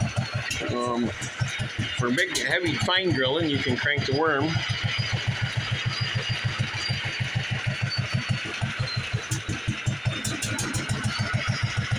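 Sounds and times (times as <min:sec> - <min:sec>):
single-cylinder engine running: 0:00.0 - 0:11.9.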